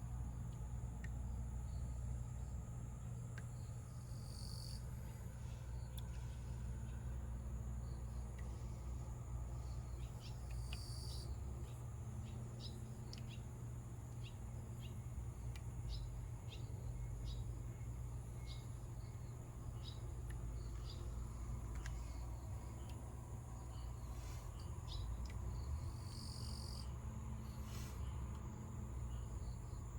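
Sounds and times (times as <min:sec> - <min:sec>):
insect trill: 0:01.4 - 0:29.9.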